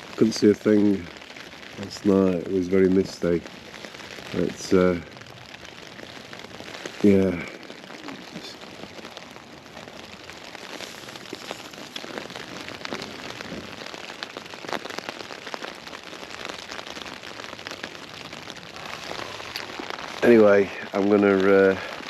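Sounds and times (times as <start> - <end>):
rain on a tent: 0.0 - 22.0.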